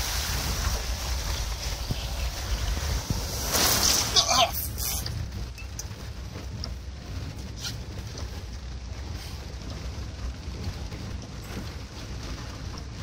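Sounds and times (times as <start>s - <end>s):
car driving through floodwater: 0.0s - 13.0s
rain ticking on windscreen: 0.0s - 13.0s.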